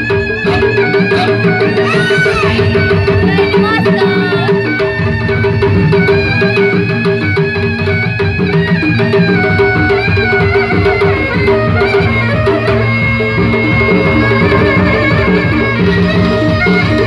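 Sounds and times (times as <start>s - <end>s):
hand-drum strokes: 0.0s - 17.0s
held wavering melody: 0.0s - 17.0s.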